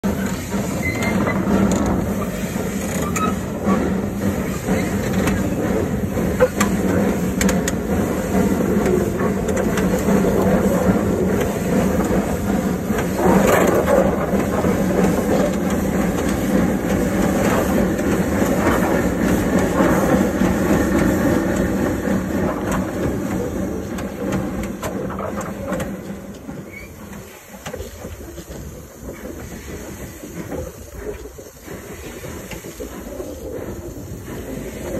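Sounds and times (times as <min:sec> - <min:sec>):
steam hissing: 0:00.0 - 0:34.9
steam locomotive running: 0:00.0 - 0:34.9.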